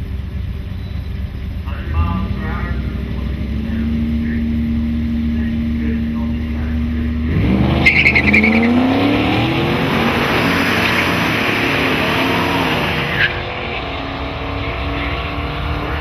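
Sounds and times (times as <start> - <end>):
race car engines accelerating: 0.0 - 16.0.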